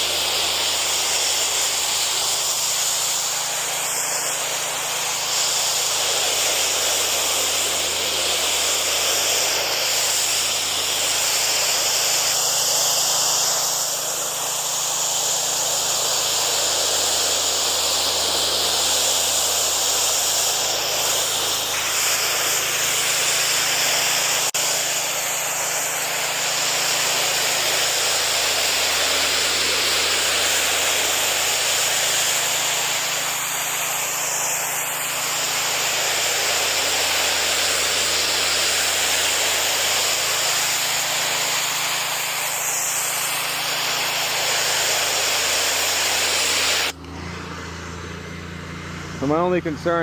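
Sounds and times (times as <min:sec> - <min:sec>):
pressure washer spray hissing: 0:00.0 - 0:47.0.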